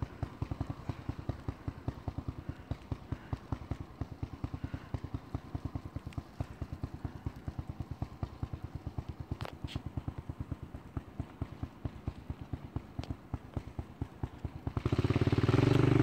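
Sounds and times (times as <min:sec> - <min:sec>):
single-cylinder engine running: 0:00.0 - 0:16.0.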